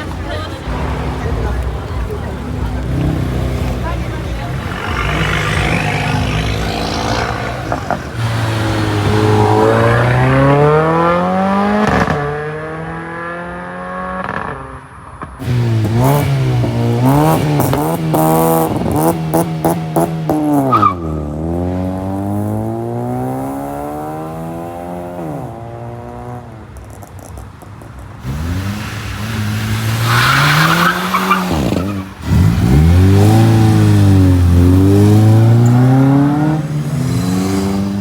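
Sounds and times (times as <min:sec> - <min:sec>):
exhaust pops and crackles: 0:00.0 - 0:10.8, 0:14.2 - 0:22.6, 0:25.9 - 0:38.0
car engine accelerating hard: 0:00.0 - 0:14.6, 0:15.4 - 0:26.7, 0:28.2 - 0:38.0.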